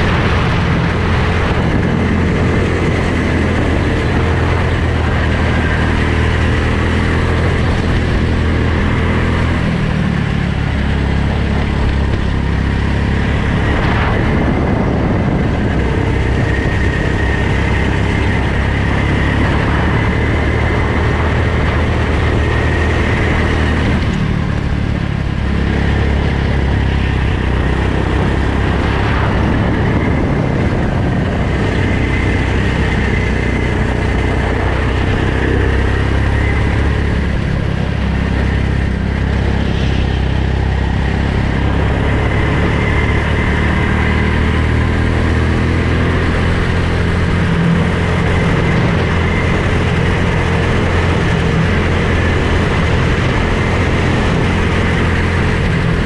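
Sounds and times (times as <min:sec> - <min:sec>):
go-kart engine running: 0:00.0 - 0:56.0
rushing wind noise: 0:00.0 - 0:56.0.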